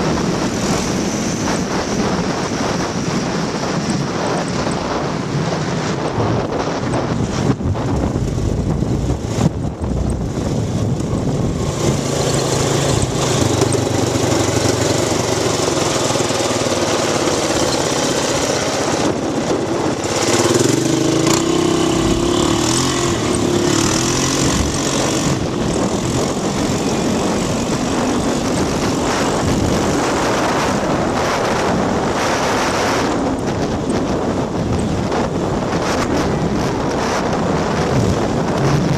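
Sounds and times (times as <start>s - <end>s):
atv engine running: 0.0s - 38.9s
wind buffeting microphone: 0.0s - 38.9s.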